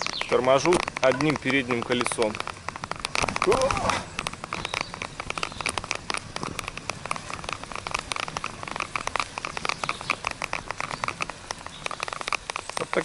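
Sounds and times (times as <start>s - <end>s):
bicycle tyres crackling on leaves: 0.0s - 13.0s.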